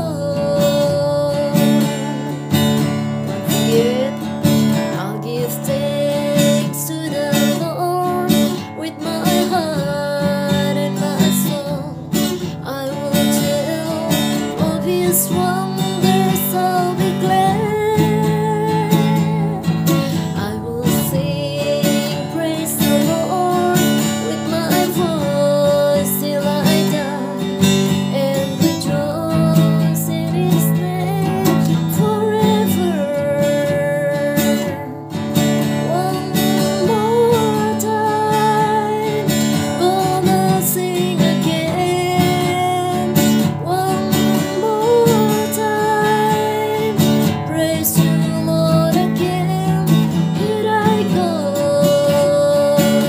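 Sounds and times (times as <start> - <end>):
woman singing gospel song: 0.0 - 2.4, 3.5 - 12.0, 12.6 - 35.0, 35.8 - 53.0
acoustic guitar strumming: 0.0 - 53.0.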